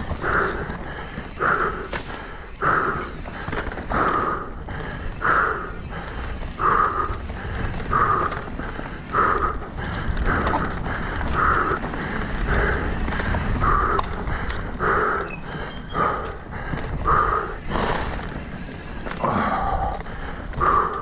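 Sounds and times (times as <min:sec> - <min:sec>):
hard rhythmic breathing: 0:00.0 - 0:21.0
wind and riding rumble: 0:00.0 - 0:21.0.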